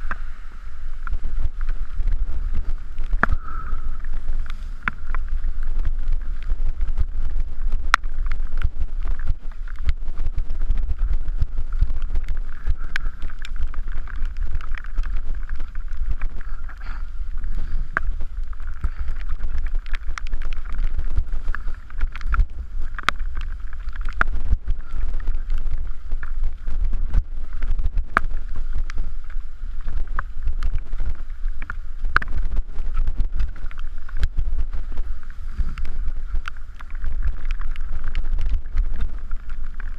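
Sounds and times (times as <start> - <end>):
wind rushing over microphone: 0.0 - 39.9
bike rattling over rocks: 1.0 - 39.9.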